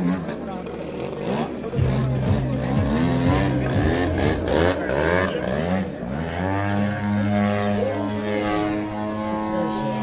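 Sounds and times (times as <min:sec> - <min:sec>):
model plane engine and propeller: 0:00.0 - 0:02.7, 0:03.4 - 0:10.0.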